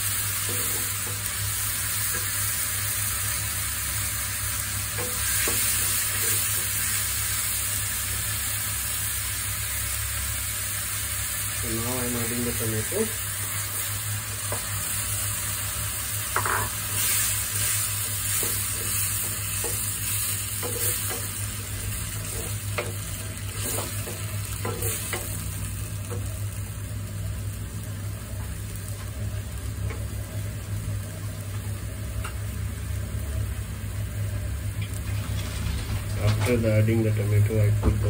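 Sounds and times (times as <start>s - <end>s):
tomato sizzling in a wok: 0.0s - 36.2s.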